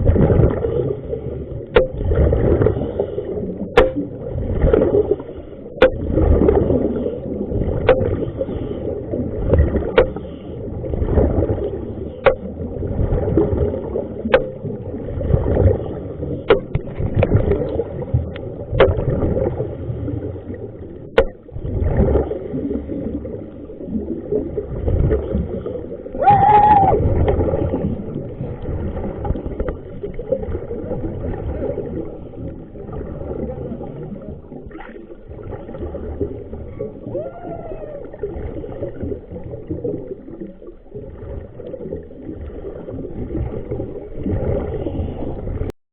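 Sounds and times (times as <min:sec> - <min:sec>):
water sloshing and gurgling: 0:00.0 - 0:45.8.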